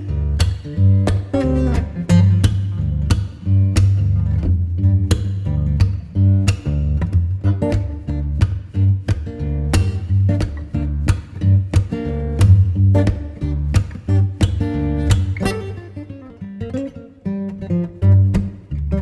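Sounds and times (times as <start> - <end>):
instrumental guitar music with bass: 0.0 - 19.0.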